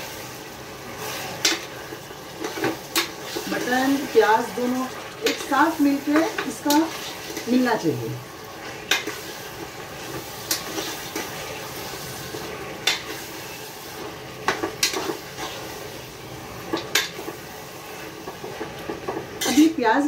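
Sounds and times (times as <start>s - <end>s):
meat and onions sizzling in oil: 0.0s - 20.0s.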